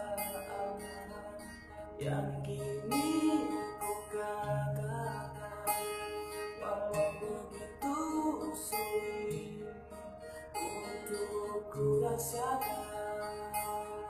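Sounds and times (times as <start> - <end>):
man singing: 0.0 - 10.0, 10.6 - 14.0
acoustic guitar chords: 0.0 - 14.0.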